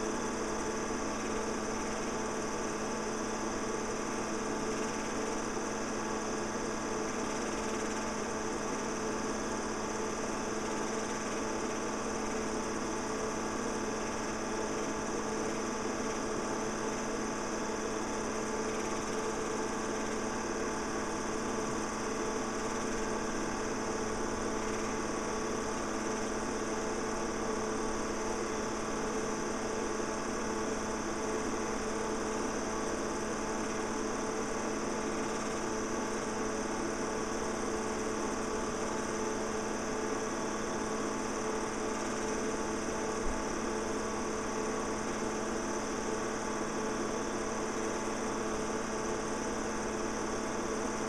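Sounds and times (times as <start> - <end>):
film projector whirring: 0.0 - 51.0.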